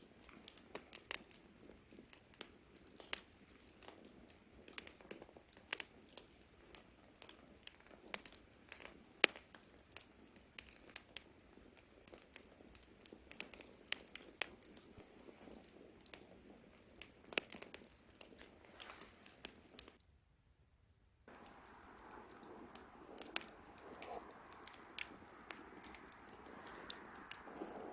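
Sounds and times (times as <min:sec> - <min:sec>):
hiss of burning wood: 0:00.0 - 0:20.0, 0:21.3 - 0:27.9
campfire crackling and popping: 0:00.0 - 0:20.1, 0:21.3 - 0:27.9.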